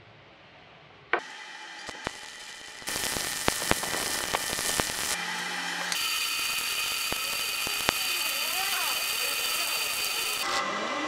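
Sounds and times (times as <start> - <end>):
welding arc crackling: 1.2 - 10.6.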